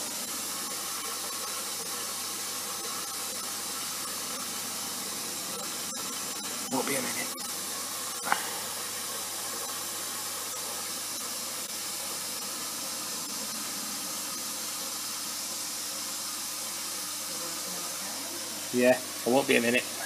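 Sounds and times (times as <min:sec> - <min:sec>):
water running into washing machine: 0:00.0 - 0:20.0.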